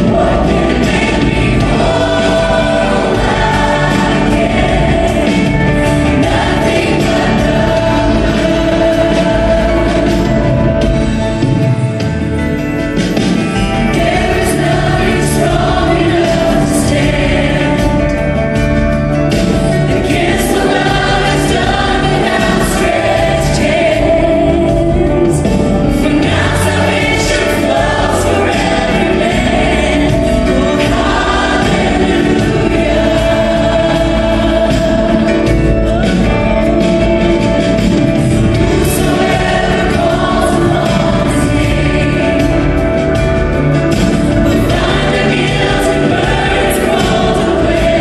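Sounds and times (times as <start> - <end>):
choir singing gospel song: 0.0 - 48.0
live band playing: 0.0 - 48.0.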